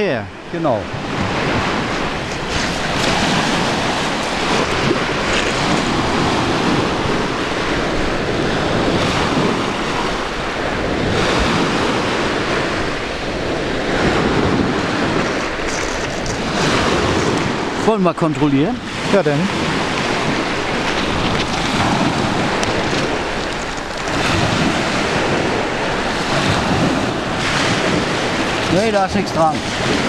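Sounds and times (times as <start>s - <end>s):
surf washing onto beach: 0.0s - 30.0s
wind on microphone: 0.0s - 30.0s.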